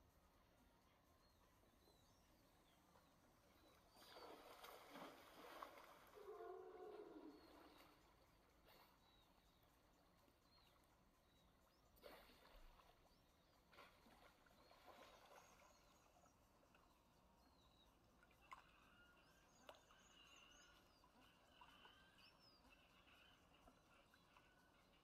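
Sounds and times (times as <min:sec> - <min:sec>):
faint high chirps: 0:00.3 - 0:25.0.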